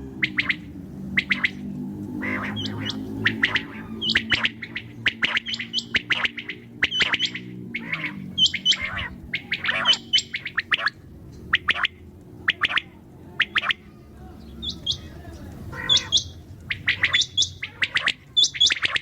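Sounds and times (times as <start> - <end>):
low steady hum: 0.0 - 19.0
quail chirping calls: 0.0 - 19.0.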